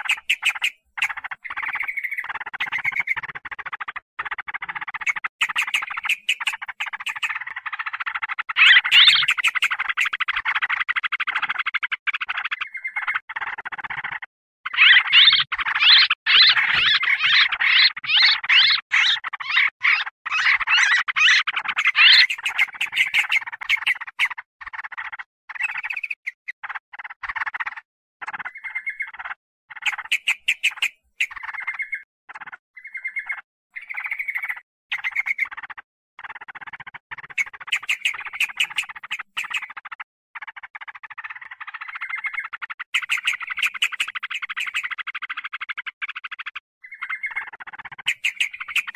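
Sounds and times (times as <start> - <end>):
birds chattering and squabbling: 0.0 - 48.9.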